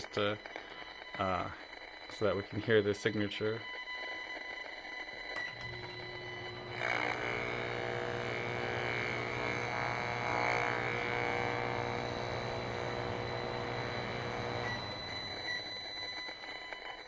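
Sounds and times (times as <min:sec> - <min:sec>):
harsh electrical buzz: 0:00.0 - 0:17.0.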